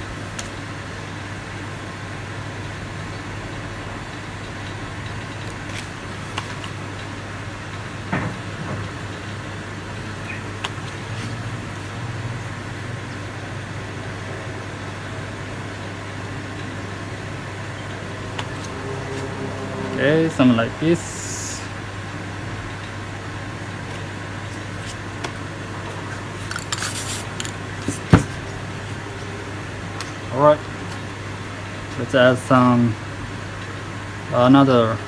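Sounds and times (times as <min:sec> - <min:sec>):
background hum and hiss: 0:00.0 - 0:35.0.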